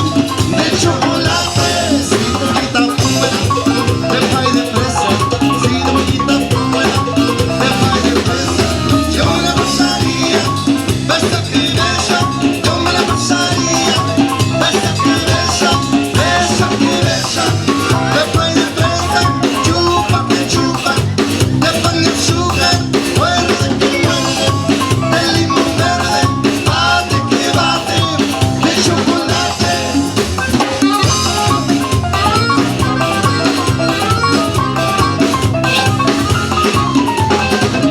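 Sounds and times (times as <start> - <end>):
bass: 0.0 - 37.9
live band playing dance beat: 0.0 - 37.9.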